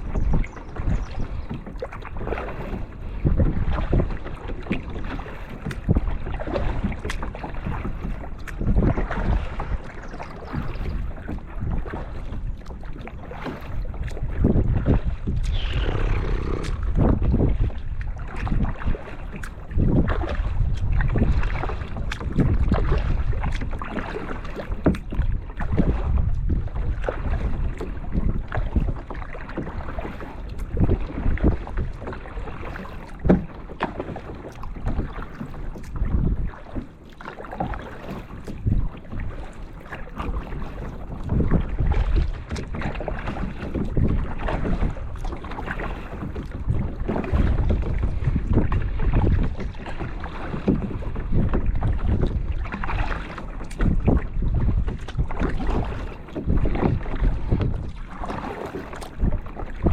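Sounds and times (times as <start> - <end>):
paddle splashing in water: 0.0 - 59.9
wind buffeting microphone: 0.0 - 59.9.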